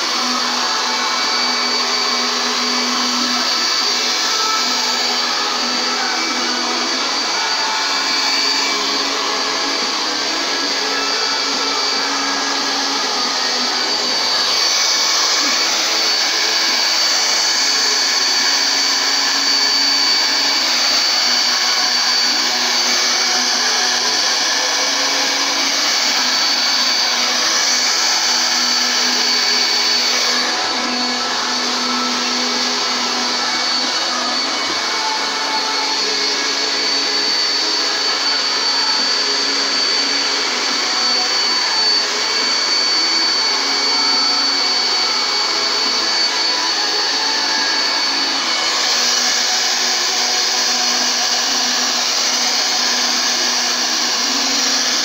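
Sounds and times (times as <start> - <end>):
hair dryer blowing air: 0.0 - 55.0.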